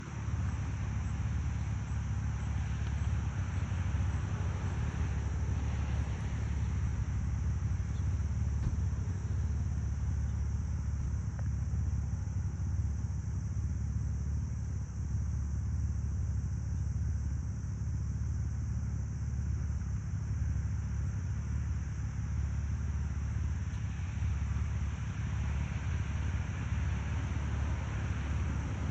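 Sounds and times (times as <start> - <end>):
low outdoor rumble: 0.0 - 28.9.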